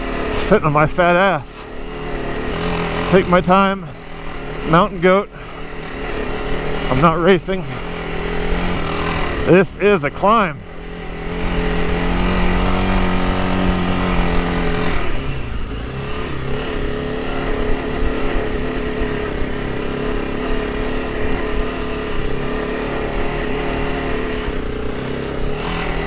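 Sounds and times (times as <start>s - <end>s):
motorcycle engine pulling under load: 0.0s - 26.0s.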